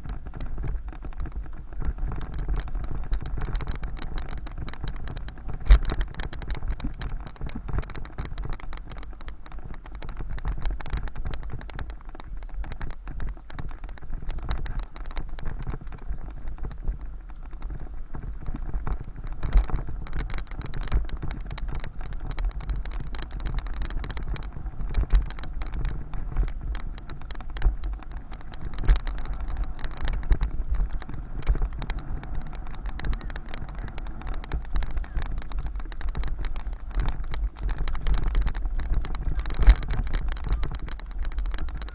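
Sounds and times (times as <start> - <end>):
bicycle rattling and knocking: 0.0 - 41.9
wind and road rumble: 0.0 - 41.9.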